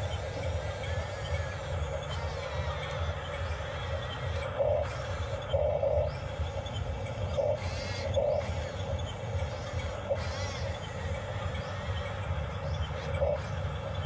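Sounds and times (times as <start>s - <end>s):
small electric motors humming: 0.0s - 14.0s
wavering motor whines: 0.0s - 14.0s.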